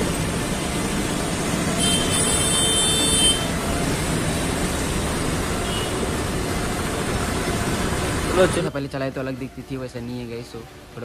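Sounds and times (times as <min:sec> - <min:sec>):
slow street traffic engines: 0:00.0 - 0:11.0.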